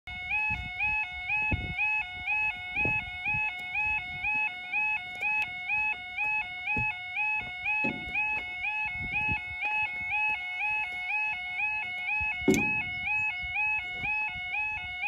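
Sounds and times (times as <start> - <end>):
level crossing two-tone alarm: 0.1 - 15.0
low thumps: 2.7 - 15.0.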